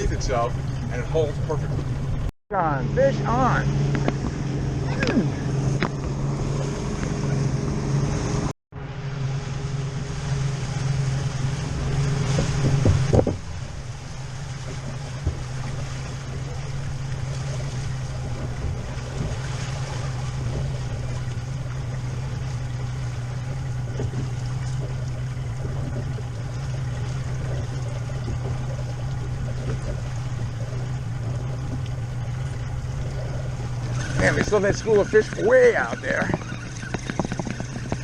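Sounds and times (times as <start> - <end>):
boat engine running: 0.0 - 38.0
rush of water and wind: 0.0 - 38.0.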